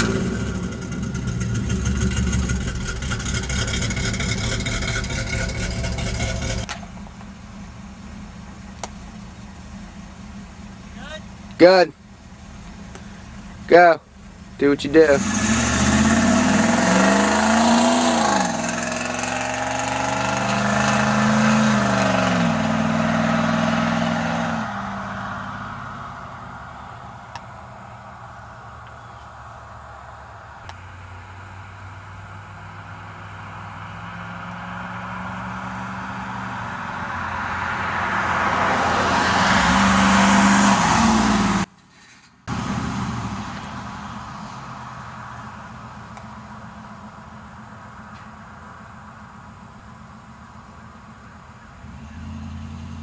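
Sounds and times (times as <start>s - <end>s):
car engine passing by: 0.0s - 7.7s, 12.5s - 53.0s.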